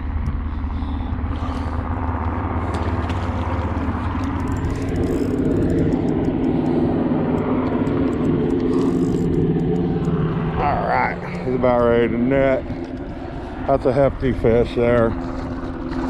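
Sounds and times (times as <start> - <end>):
aircraft engine droning: 0.0 - 16.0.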